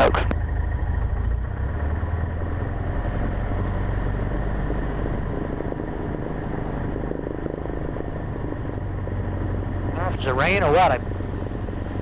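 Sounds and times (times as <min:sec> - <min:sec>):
airplane engine and propeller: 0:00.0 - 0:12.0.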